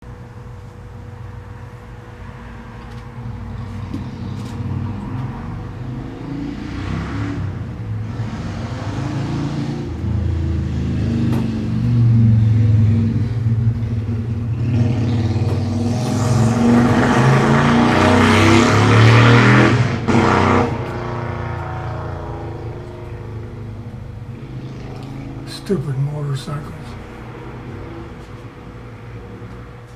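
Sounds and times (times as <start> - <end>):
motorcycle engines running: 0.2 - 29.9.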